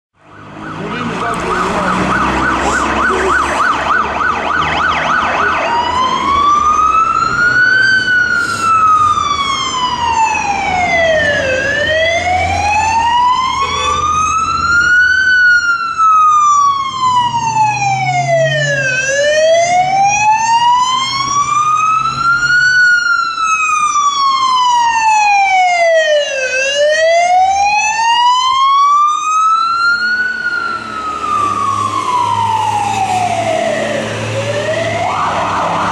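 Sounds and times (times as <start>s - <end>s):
siren yelp and wail: 0.2s - 35.9s.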